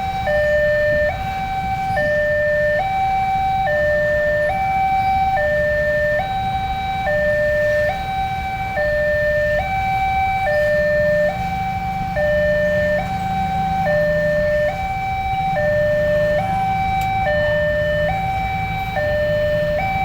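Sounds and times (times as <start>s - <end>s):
two-tone siren: 0.0s - 20.0s.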